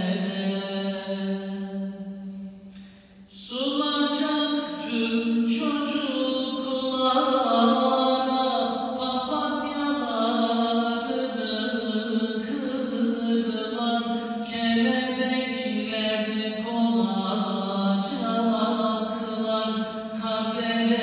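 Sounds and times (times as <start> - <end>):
man singing unaccompanied hymn: 3.4 - 21.0.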